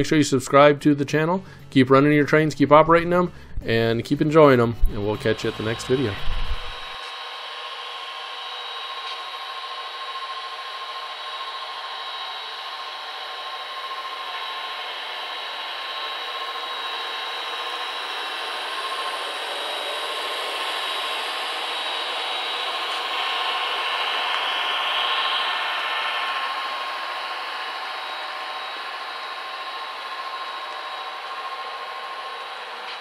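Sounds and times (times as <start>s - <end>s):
faint hum: 0.0s - 33.0s
model train whirring on rails: 5.0s - 33.0s.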